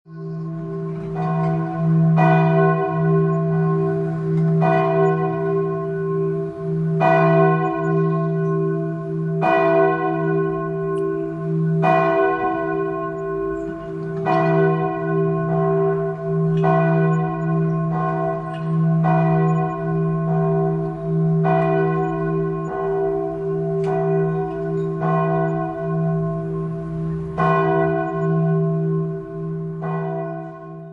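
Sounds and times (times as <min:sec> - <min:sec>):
church bell tolling: 0:00.1 - 0:30.9.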